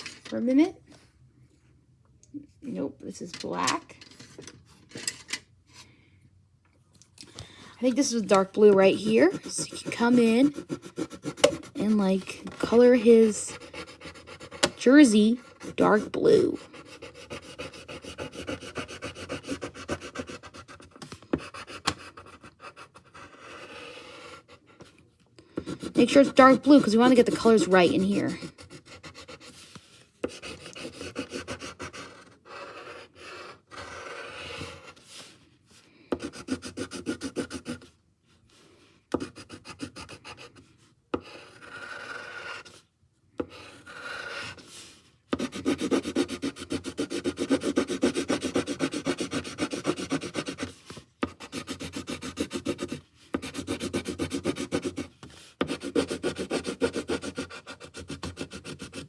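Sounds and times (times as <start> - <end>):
pencil scribbling on paper: 7.8 - 24.8, 25.6 - 35.0, 36.2 - 37.9, 39.1 - 42.8, 43.4 - 59.0.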